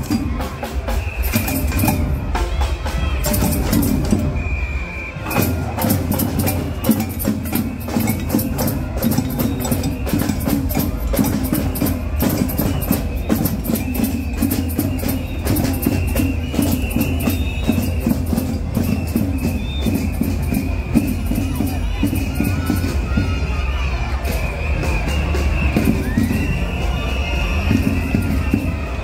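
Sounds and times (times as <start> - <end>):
loud music with busy percussion: 0.0 - 29.0.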